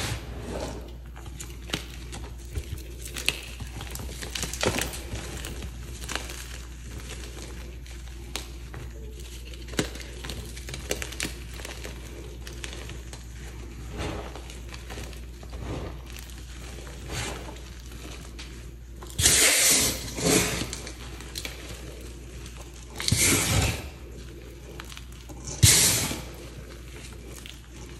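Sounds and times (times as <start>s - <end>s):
chalk crunching under hands: 0.0s - 27.9s.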